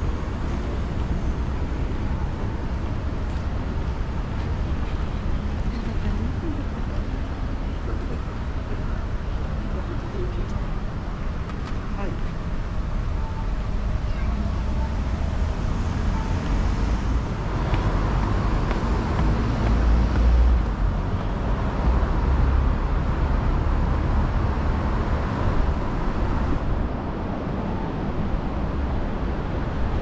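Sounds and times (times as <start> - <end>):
city street traffic rumble: 0.0 - 30.0.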